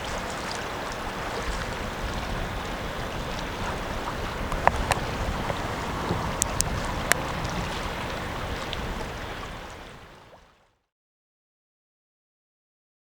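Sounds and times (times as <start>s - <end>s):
water flowing: 0.0s - 10.7s
wind: 0.0s - 10.8s.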